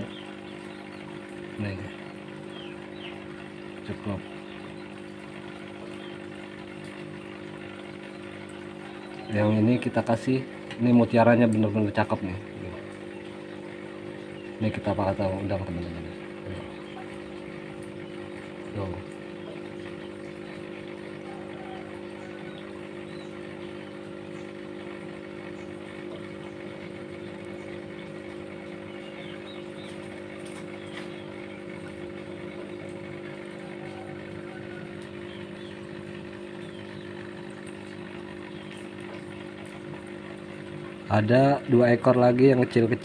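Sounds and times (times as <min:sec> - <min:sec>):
aquarium pump hum: 0:00.0 - 0:43.0.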